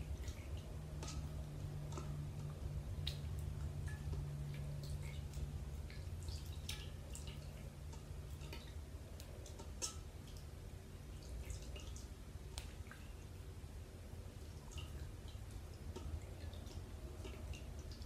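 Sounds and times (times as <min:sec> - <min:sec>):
water dripping and splashing in bowl: 0:00.0 - 0:18.0.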